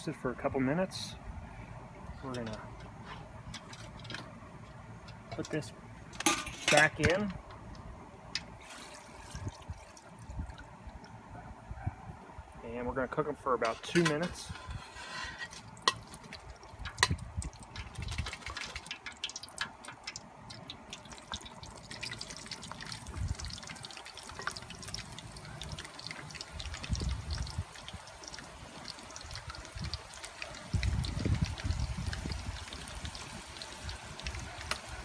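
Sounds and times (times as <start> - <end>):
fries sizzling in hot oil: 0.7 - 11.3, 12.2 - 35.0.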